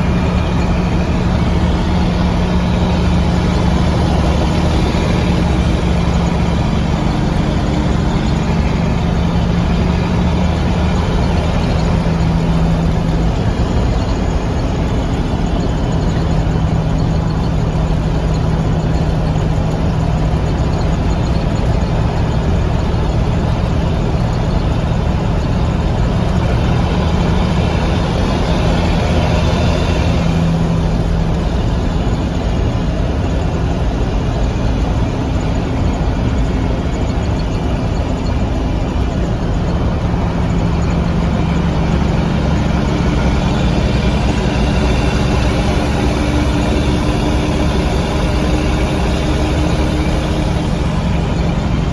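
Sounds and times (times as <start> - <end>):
diesel truck engine droning: 0.0 - 51.9.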